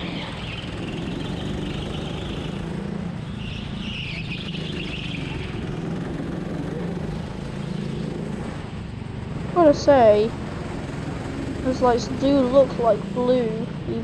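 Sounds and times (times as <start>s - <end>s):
go-kart engine running: 0.0s - 14.0s.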